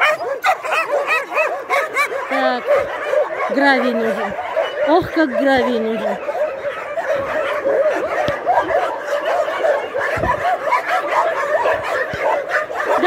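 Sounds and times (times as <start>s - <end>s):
many dogs barking and yelping: 0.0s - 13.0s.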